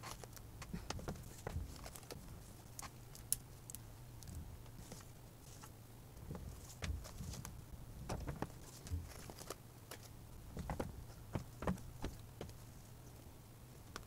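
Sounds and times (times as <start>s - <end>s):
moss rustling and crackling: 0.0s - 13.2s.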